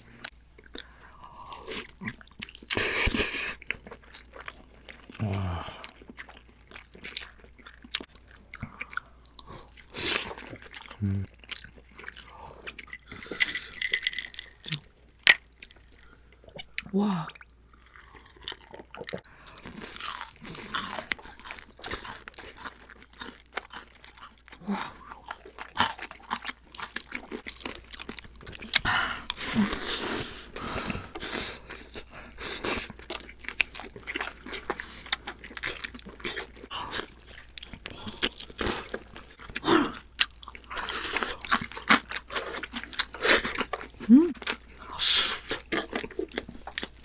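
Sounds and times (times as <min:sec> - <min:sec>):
crunchy chewing of fried chicken: 0:00.1 - 0:13.4, 0:17.8 - 0:47.0.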